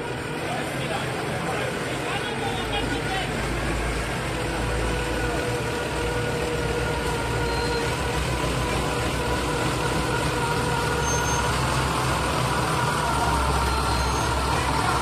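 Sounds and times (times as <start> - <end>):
forklift engine running: 0.0 - 15.0.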